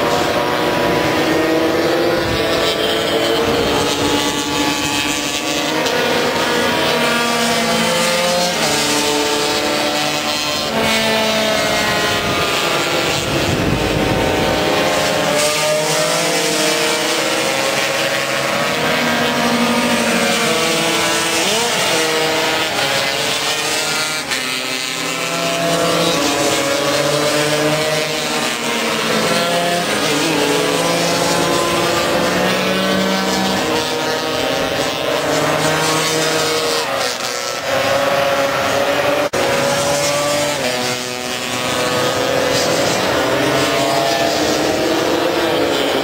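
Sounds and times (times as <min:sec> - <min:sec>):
racing scooter engines revving: 0:00.0 - 0:46.0.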